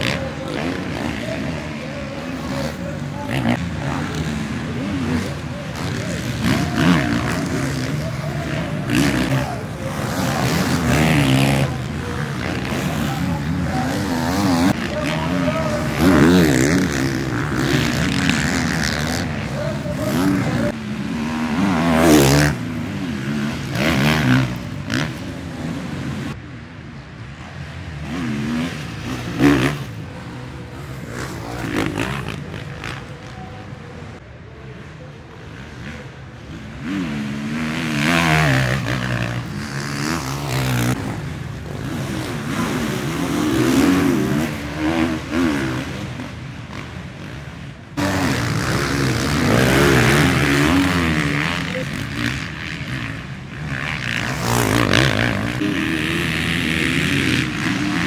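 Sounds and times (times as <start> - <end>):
motocross bike engine revving: 0.0 - 26.4, 27.4 - 34.2, 34.8 - 58.0.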